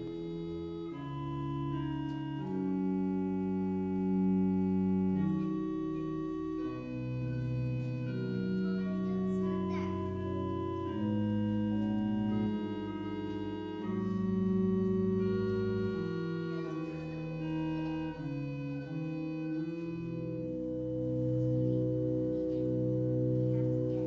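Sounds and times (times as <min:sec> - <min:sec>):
organ chords: 0:00.0 - 0:24.0.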